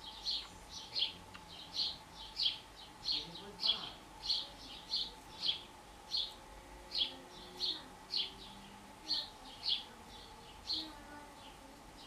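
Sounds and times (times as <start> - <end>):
small bird chirping: 0.0 - 11.6.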